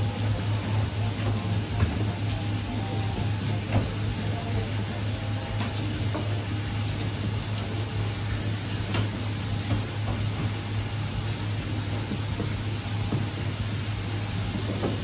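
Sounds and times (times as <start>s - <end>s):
water spraying from hose: 0.0s - 15.0s.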